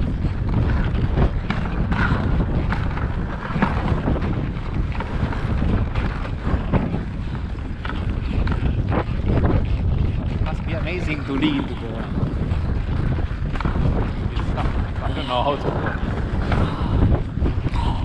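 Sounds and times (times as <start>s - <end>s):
sled knocks and rattles: 0.0s - 18.0s
sled rumbling on snow: 0.0s - 18.0s
wind buffeting microphone: 0.0s - 18.0s.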